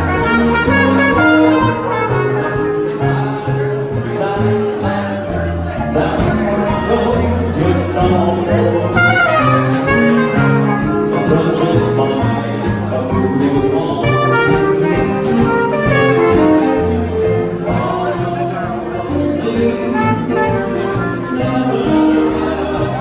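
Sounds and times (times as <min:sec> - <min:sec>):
lead melody in quick runs: 0:00.0 - 0:23.0
piano: 0:00.0 - 0:23.0
upright bass: 0:00.0 - 0:23.0.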